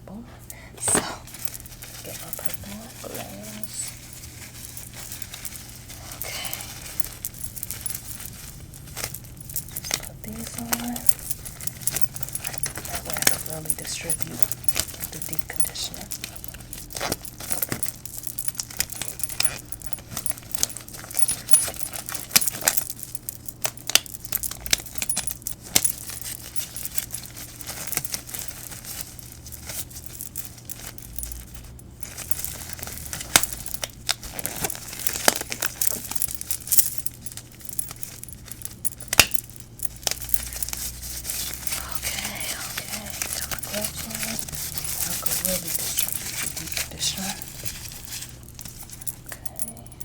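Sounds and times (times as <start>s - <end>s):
disposable gloves crinkling: 0.8s - 50.0s.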